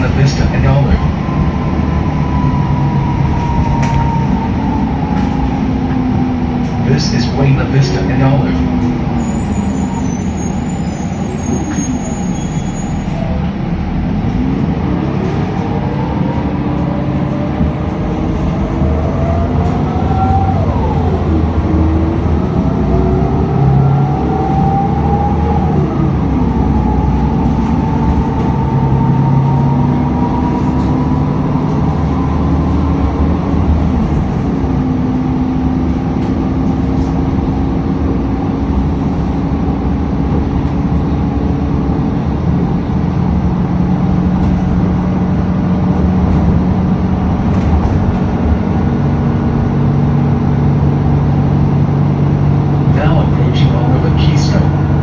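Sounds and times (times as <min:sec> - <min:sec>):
bus engine whine: 0:00.0 - 0:55.0
low rumble and road noise: 0:00.0 - 0:55.0.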